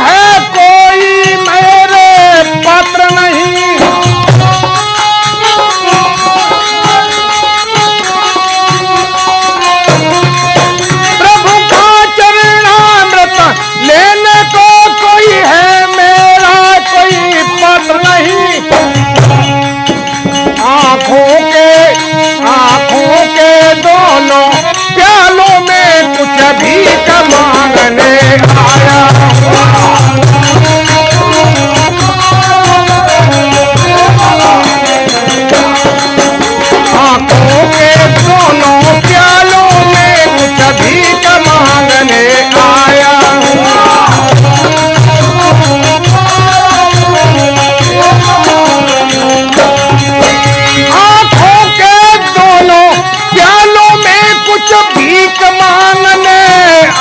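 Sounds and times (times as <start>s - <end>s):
hand cymbals jingling: 0.0s - 57.0s
harmonium: 0.0s - 57.0s
man singing: 0.0s - 57.0s.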